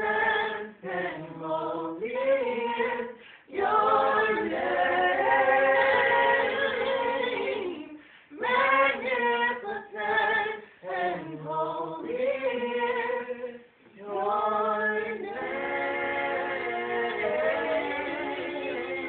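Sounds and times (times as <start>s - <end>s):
group singing a praise song: 0.0s - 19.0s.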